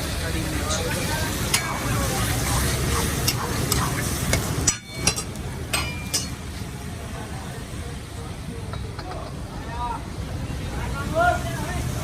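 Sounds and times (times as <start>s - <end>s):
food frying in a wok: 0.0s - 12.0s.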